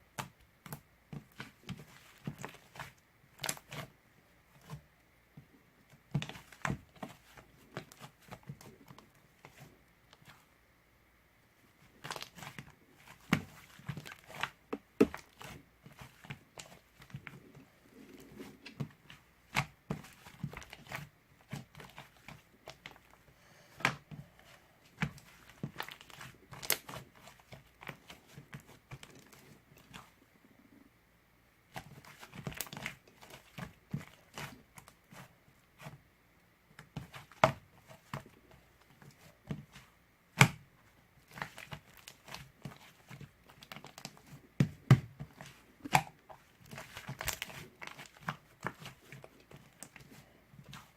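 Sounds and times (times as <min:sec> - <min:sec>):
crinkling and crackling: 0:00.1 - 0:10.5, 0:11.7 - 0:30.9, 0:31.7 - 0:36.0, 0:36.7 - 0:50.9.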